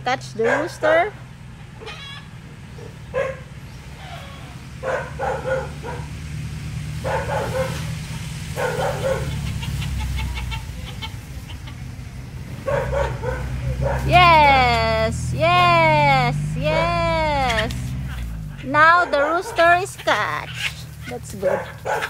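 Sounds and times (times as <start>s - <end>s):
chickens clucking: 1.6s - 6.1s, 7.0s - 22.0s.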